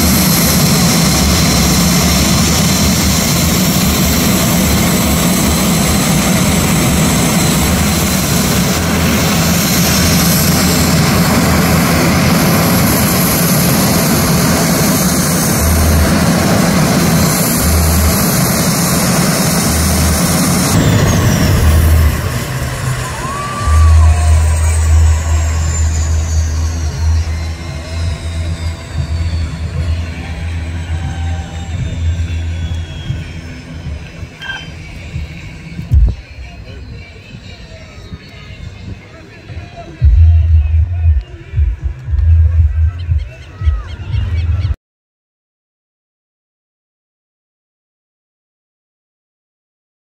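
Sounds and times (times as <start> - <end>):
propeller drone: 0.0 - 44.7
high turbine whine: 0.0 - 44.8.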